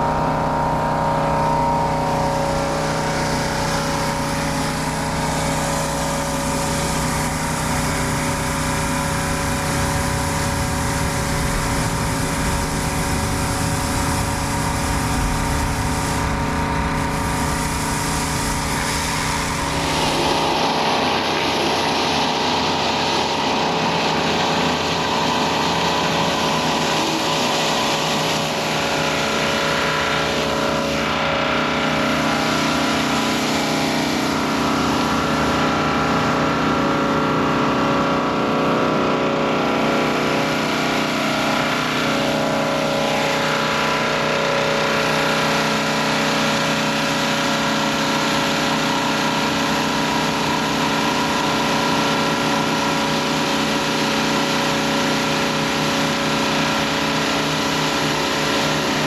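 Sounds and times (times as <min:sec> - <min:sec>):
pressure washer engine running: 0:00.0 - 0:59.0
water jet hissing on concrete: 0:00.1 - 0:59.0.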